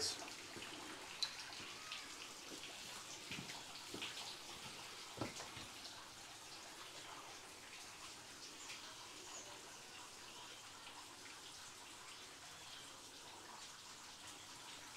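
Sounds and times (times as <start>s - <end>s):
spring water trickling and dripping: 0.0s - 14.9s.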